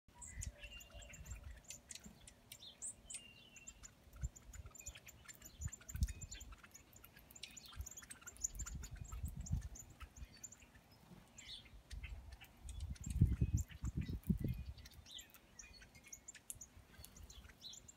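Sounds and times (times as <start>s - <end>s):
songbirds chip calls: 0.1s - 17.9s.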